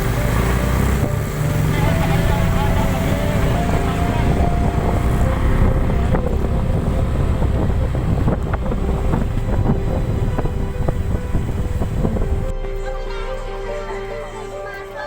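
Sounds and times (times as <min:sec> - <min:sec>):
wind buffeting microphone: 0:00.0 - 0:12.8
vehicle rumble: 0:00.0 - 0:15.0.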